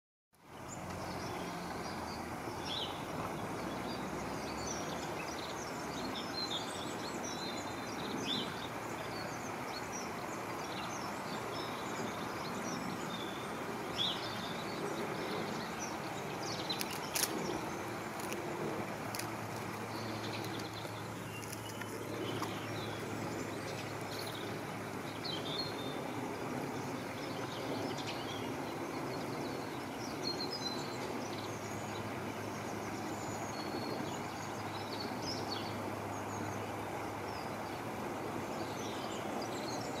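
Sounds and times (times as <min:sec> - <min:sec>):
small birds chirping: 0:00.4 - 0:40.0.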